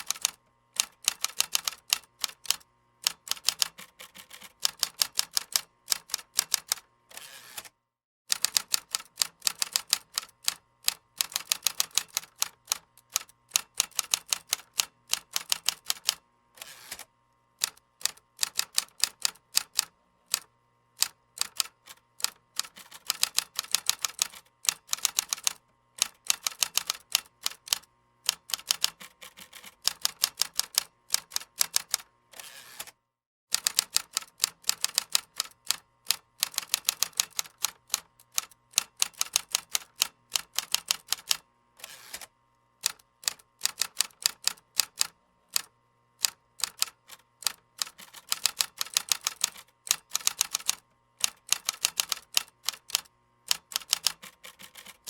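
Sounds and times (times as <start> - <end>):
keyboard typing: 0.0 - 6.8, 8.3 - 16.2, 17.6 - 32.0, 33.5 - 41.4, 42.8 - 55.0.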